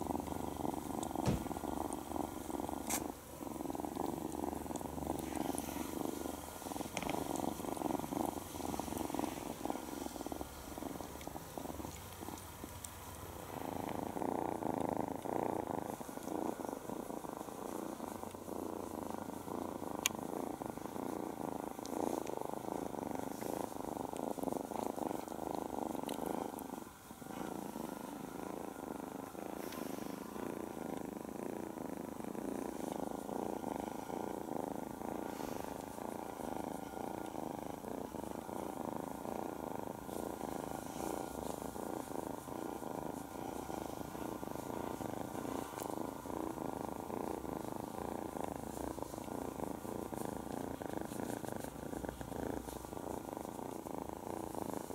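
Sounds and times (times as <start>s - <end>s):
kitten purring: 0.0s - 54.9s.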